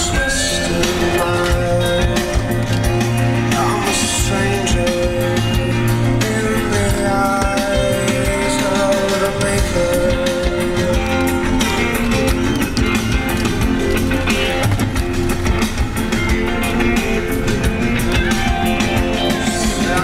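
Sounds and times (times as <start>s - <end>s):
guitar song with drum beat: 0.0s - 20.0s.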